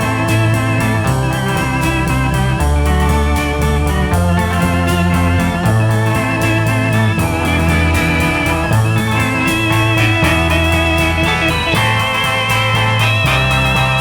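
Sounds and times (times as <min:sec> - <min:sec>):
electric guitar: 0:00.0 - 0:14.0
electric organ: 0:00.0 - 0:14.0
instrumental rock band: 0:00.0 - 0:14.0.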